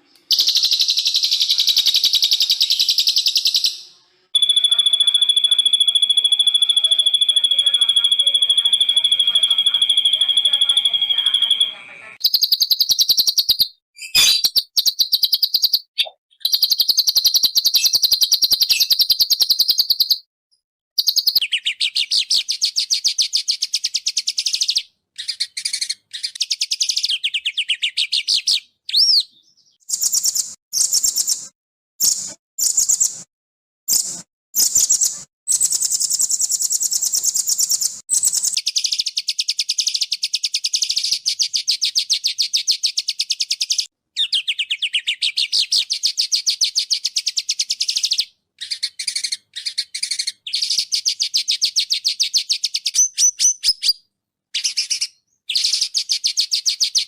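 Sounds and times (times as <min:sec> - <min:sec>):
songbird singing trills: 0:00.0 - 0:20.2, 0:21.0 - 0:31.4, 0:34.6 - 0:54.0.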